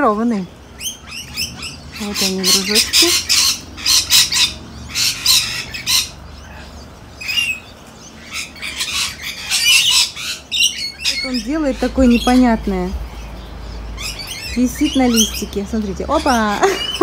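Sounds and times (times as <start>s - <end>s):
parrots screeching: 0.7s - 17.0s.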